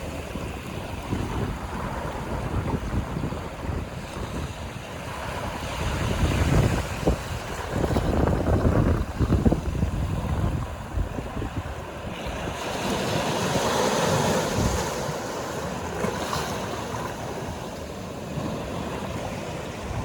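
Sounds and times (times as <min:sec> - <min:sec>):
sea surf washing: 0:00.0 - 0:20.0
wind buffeting microphone: 0:00.0 - 0:20.0.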